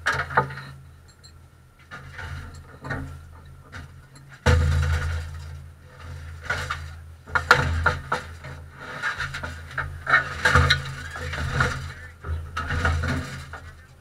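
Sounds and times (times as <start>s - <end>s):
low steady hum: 0.0s - 14.0s
knocks and rattles in cockpit: 1.8s - 14.0s.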